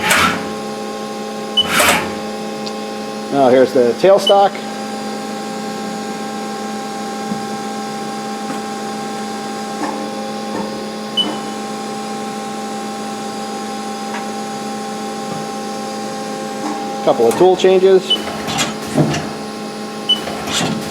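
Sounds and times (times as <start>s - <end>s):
lathe mechanical hum: 0.0s - 20.9s.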